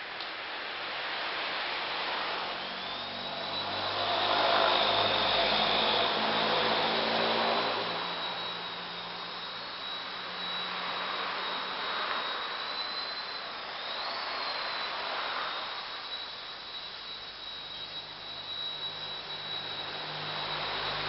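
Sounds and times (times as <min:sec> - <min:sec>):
rotor wash hiss: 0:00.0 - 0:21.0
toy helicopter motor whine: 0:01.8 - 0:21.0.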